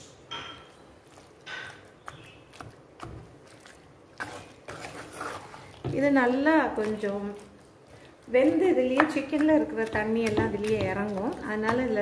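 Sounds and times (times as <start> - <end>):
spatula stirring thick food: 0.6 - 12.0.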